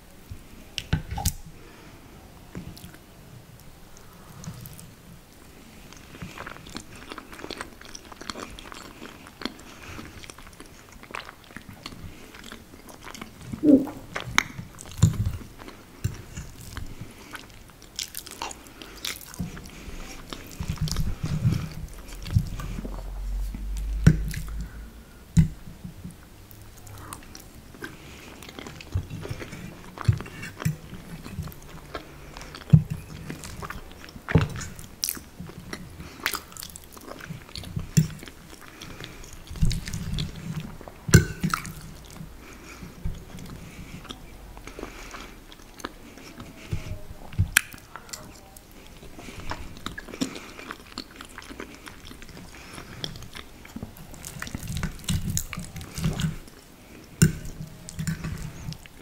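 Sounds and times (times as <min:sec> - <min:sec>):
wet chewing mouth sounds: 0:04.0 - 0:59.0.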